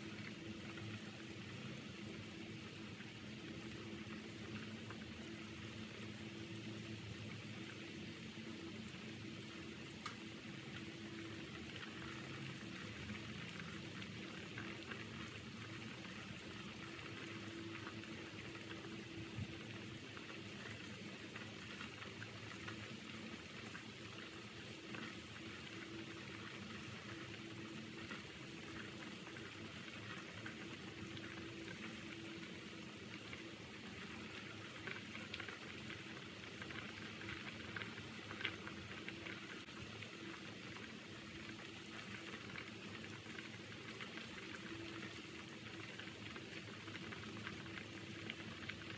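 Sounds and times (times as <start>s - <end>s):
soup bubbling at a rolling boil: 0.0s - 48.9s.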